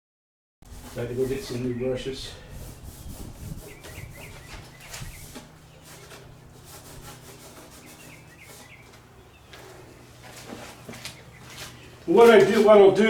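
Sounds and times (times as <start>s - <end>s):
brush rubbing on foam: 0.7s - 12.8s.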